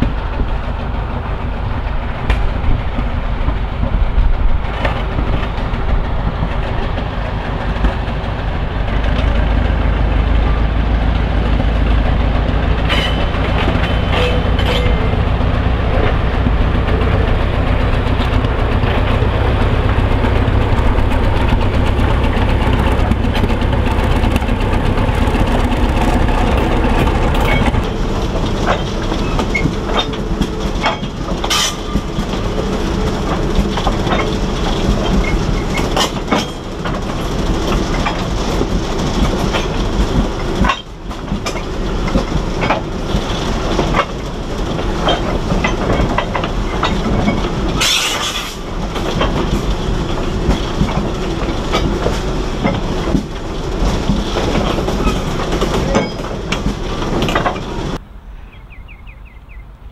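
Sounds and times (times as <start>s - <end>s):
wheels clattering over rail joints: 0.0s - 58.0s.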